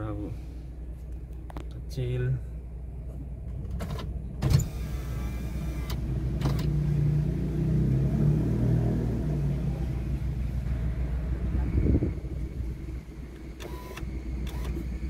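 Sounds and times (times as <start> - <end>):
low road rumble: 0.0 - 15.0
car engine running: 2.6 - 15.0.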